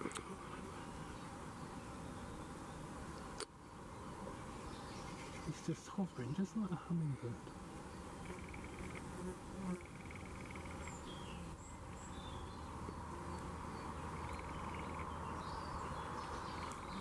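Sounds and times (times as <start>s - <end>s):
moth wings humming: 0.0s - 17.0s.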